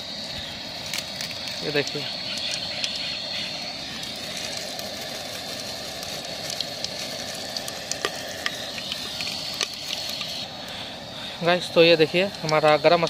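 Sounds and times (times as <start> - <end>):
spices sizzling in hot oil: 0.0 - 13.0
sharp pops and crackles: 0.7 - 10.8, 12.1 - 13.0.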